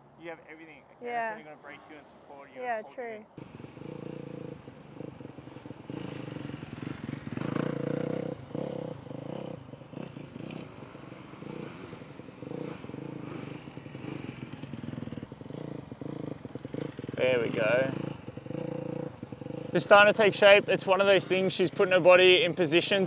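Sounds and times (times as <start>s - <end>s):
dirt bike engine revving: 3.4s - 23.0s.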